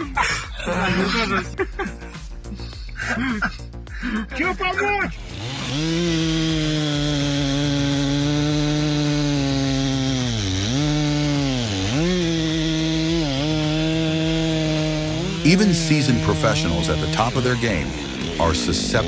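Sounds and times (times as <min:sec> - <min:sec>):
chainsaw cutting wood: 0:00.0 - 0:02.0, 0:04.7 - 0:19.0.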